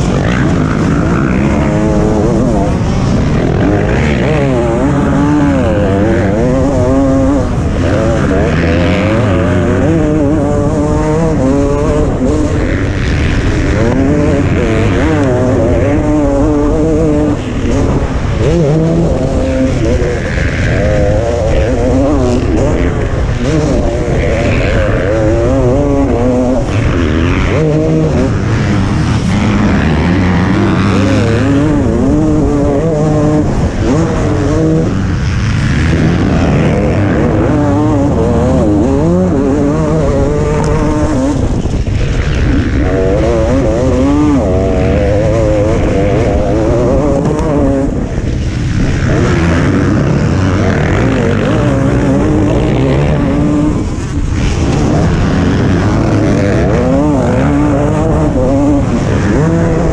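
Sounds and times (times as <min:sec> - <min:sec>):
motocross engine revving: 0:00.0 - 0:59.9
wind and track rumble: 0:00.0 - 0:59.9.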